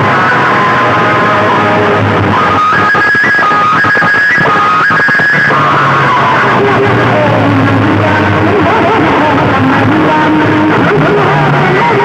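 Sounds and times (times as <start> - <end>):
loud recorded music: 0.0 - 12.0.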